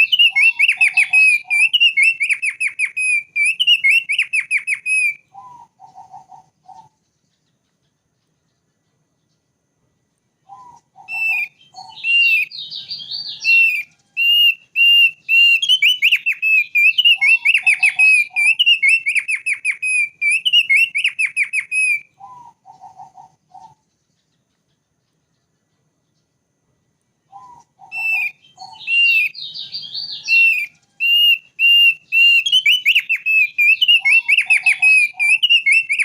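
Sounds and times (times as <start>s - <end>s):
bird singing high whistled notes: 0.0s - 7.3s, 10.4s - 23.9s, 27.3s - 36.0s
lower bird notes: 0.0s - 36.0s.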